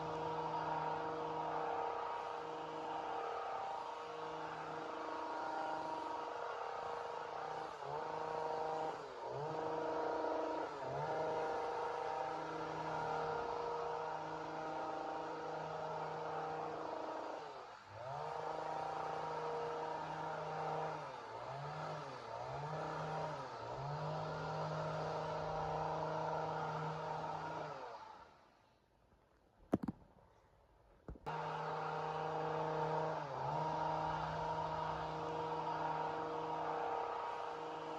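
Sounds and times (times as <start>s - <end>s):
chainsaw revving: 0.0s - 28.2s, 31.3s - 37.9s.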